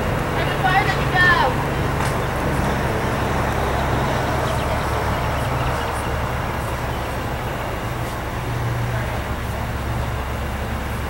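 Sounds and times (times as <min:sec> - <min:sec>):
low engine hum: 0:00.0 - 0:11.0
noisy rush: 0:00.0 - 0:11.0.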